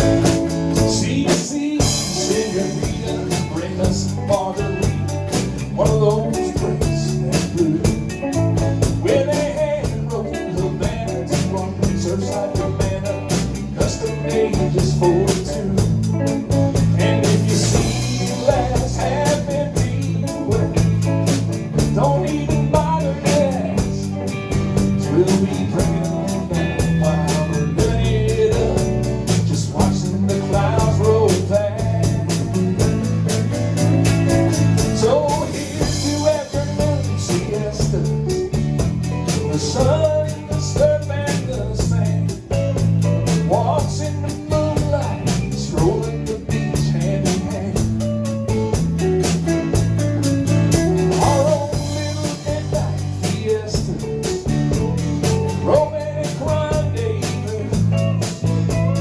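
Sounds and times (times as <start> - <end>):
band playing upbeat song: 0.0 - 59.0.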